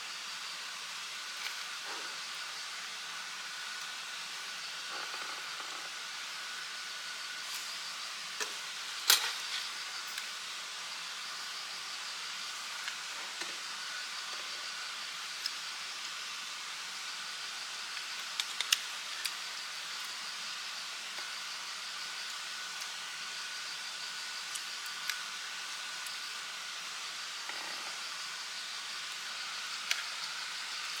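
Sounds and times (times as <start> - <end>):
night insects trilling: 0.0 - 31.0.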